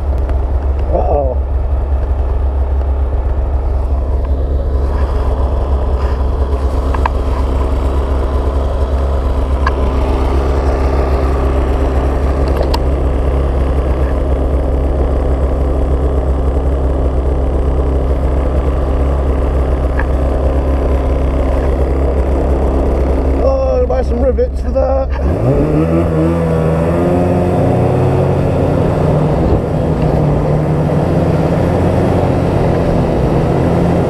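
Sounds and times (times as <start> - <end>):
snowmobile engine droning: 0.0 - 34.0.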